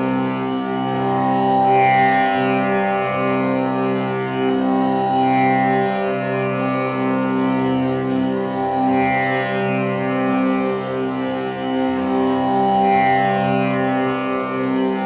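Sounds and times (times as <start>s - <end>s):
tanpura drone: 0.0s - 15.0s.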